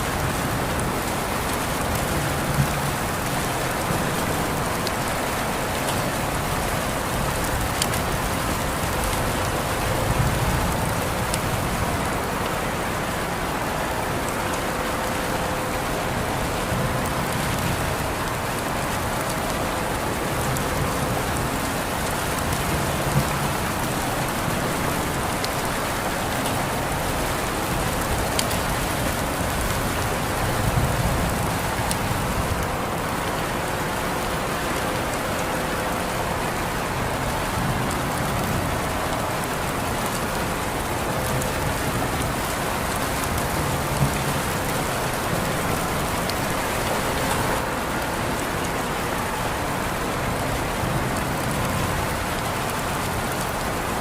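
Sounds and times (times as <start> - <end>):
raindrops striking: 0.0 - 54.0
steady rain falling: 0.0 - 54.0.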